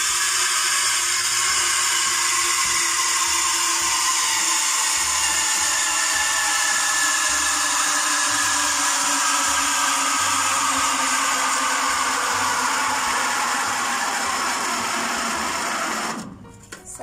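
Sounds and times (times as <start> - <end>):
drink machine whirring: 0.0 - 16.4.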